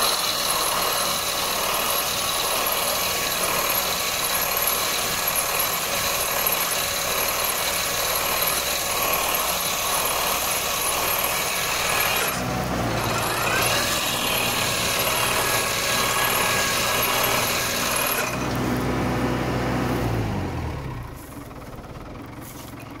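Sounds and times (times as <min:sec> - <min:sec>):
tree shaker machine running: 0:00.0 - 0:23.0.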